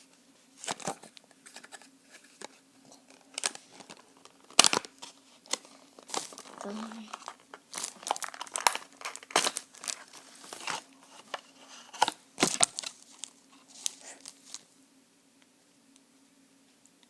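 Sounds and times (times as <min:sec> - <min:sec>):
packaging crinkling and tearing: 0:00.6 - 0:14.6.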